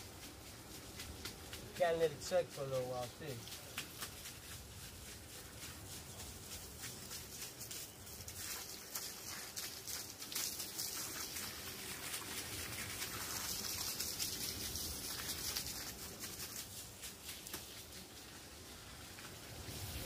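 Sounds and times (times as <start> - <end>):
hose water spraying onto grass: 0.0 - 20.0.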